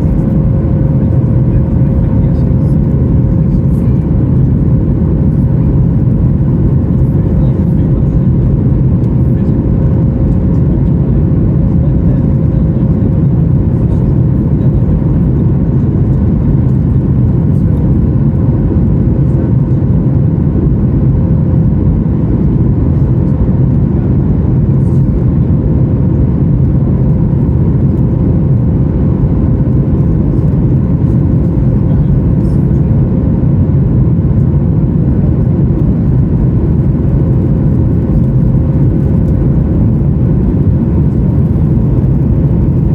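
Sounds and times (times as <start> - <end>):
airliner cabin engine rumble: 0.0 - 42.9
steady hum: 0.0 - 42.9.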